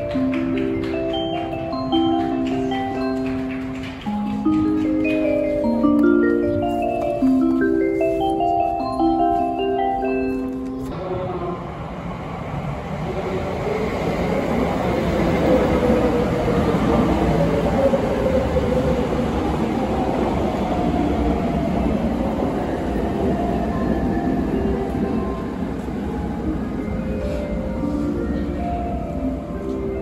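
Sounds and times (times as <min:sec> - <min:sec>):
train wheels rumbling on rails: 0:00.0 - 0:09.8, 0:10.9 - 0:30.0.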